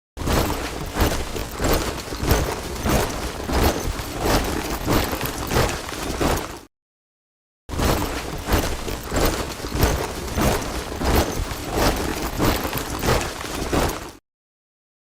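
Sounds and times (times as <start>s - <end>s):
boots marching in step: 0.2s - 6.7s, 7.8s - 14.2s.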